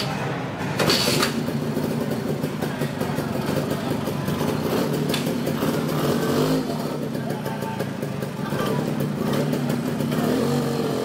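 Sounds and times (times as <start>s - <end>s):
motorcycle engine idling: 0.2s - 11.0s.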